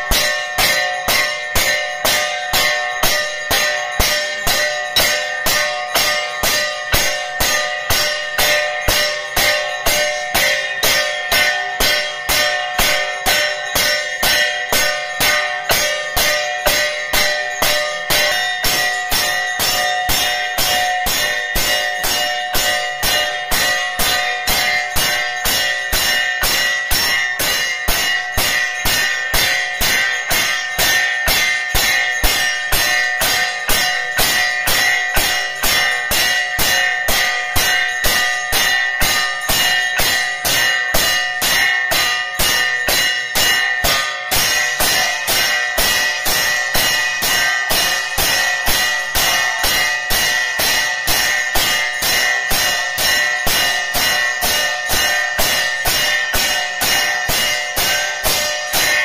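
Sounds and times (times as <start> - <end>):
temple bell ringing: 0.0 - 59.0.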